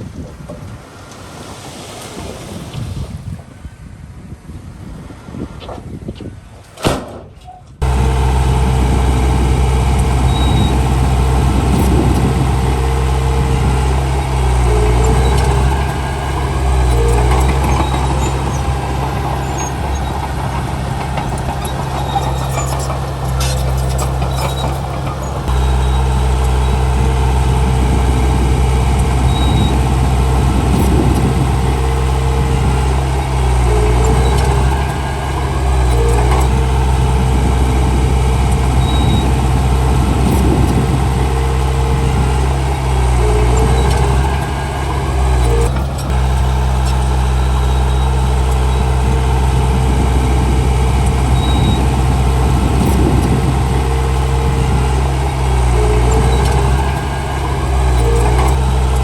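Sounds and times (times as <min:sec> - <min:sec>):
wind noise: 0:00.0 - 0:59.0
diesel earthmoving machinery running: 0:06.8 - 0:59.0.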